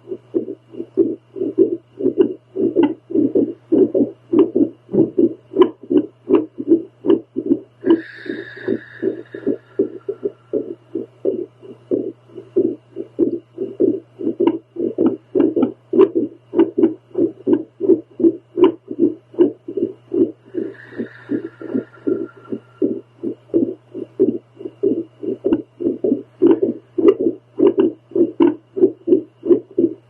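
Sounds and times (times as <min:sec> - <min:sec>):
heartbeat pulses: 0:00.0 - 0:30.0
steady low hum: 0:00.0 - 0:30.0.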